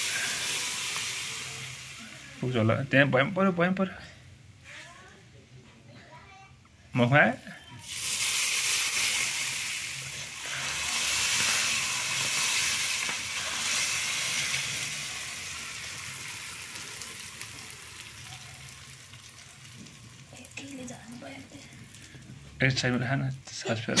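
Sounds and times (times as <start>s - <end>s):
hot oil sizzling: 0.0s - 3.7s, 7.0s - 24.0s.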